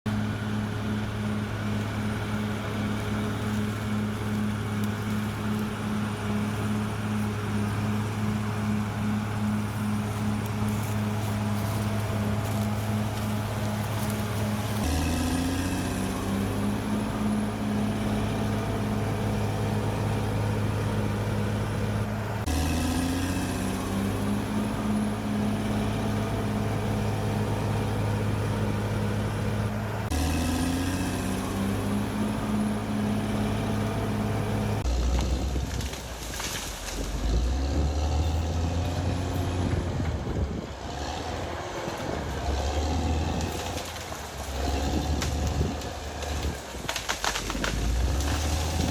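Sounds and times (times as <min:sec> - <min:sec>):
bulldozer diesel engine drone: 0:00.1 - 0:48.9.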